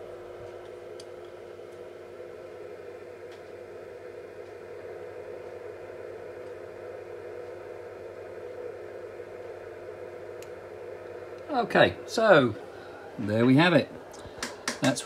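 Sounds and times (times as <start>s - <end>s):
background hum with hiss: 0.0s - 15.0s.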